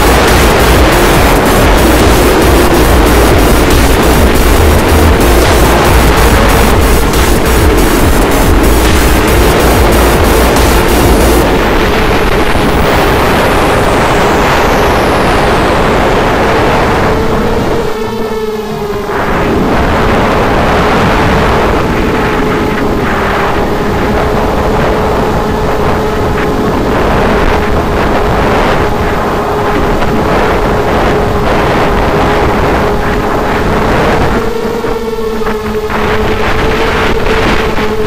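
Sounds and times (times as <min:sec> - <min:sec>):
quadcopter motors whining: 0:00.0 - 0:38.0
wind over microphone: 0:00.0 - 0:38.0.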